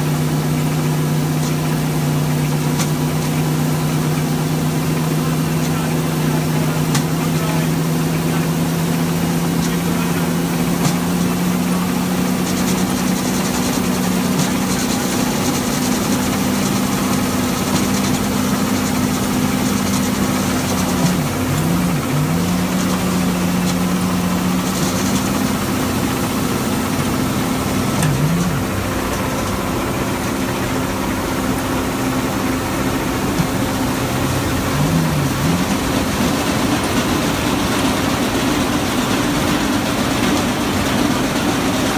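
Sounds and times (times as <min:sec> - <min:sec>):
engine-driven machinery humming: 0:00.0 - 0:41.9.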